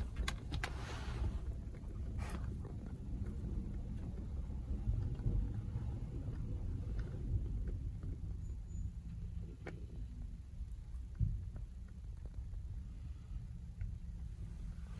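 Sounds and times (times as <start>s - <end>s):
car cabin rumble: 0.0s - 14.9s.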